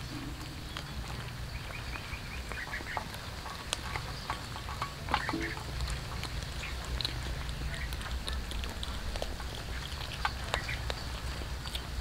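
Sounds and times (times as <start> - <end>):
cats chewing: 0.0 - 12.0
steady low rumble: 0.0 - 12.0.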